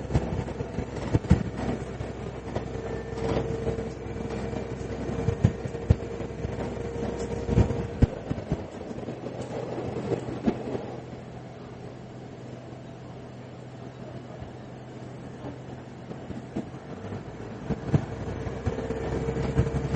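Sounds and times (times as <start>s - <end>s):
railcar engine hum and whine: 0.0s - 19.9s.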